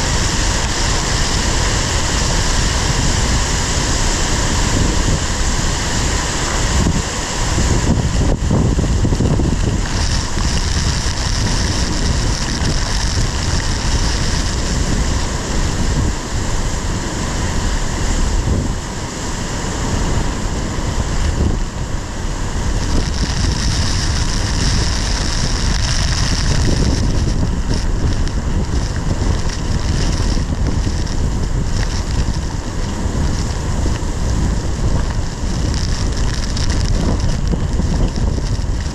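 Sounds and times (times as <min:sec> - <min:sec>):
heavy rain pelting a car: 0:00.0 - 0:38.9
strong wind buffeting: 0:00.0 - 0:38.9.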